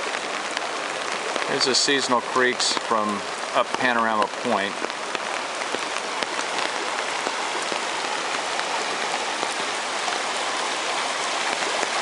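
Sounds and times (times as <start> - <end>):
creek rushing: 0.0 - 12.0
raindrops ticking close by: 0.0 - 12.0
steady rain falling: 0.0 - 12.0.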